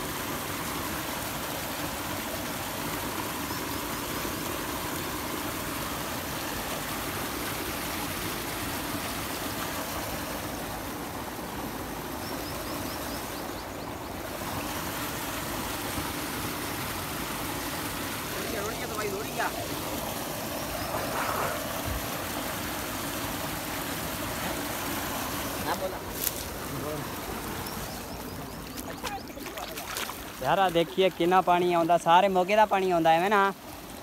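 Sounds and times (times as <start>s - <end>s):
water rushing down a channel: 0.0s - 12.2s, 14.2s - 34.0s.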